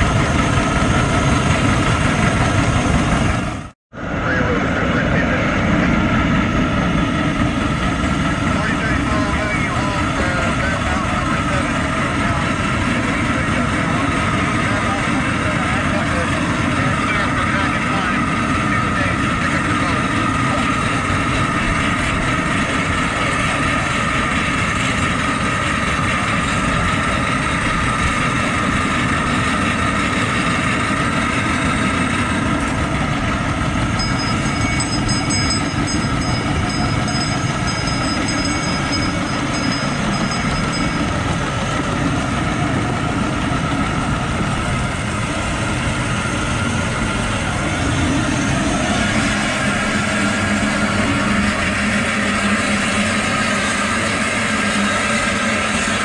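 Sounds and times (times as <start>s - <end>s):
miniature train rumbling on rails: 0.0s - 56.0s.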